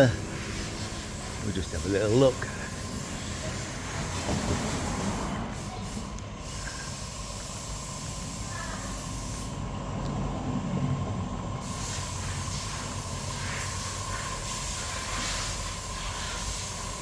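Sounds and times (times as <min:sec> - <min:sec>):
pressure washer water spray hiss: 0:00.0 - 0:09.6, 0:11.6 - 0:17.0.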